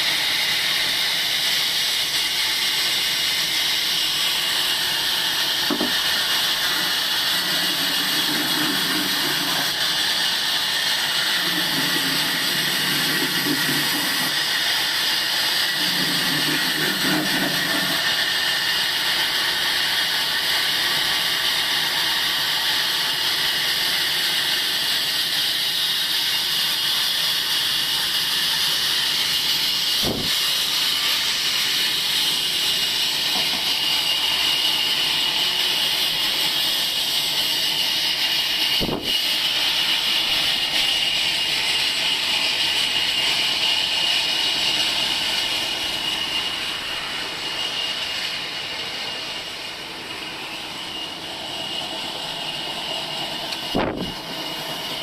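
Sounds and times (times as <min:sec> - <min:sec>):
sawmill machine hissing: 0:00.0 - 0:55.0.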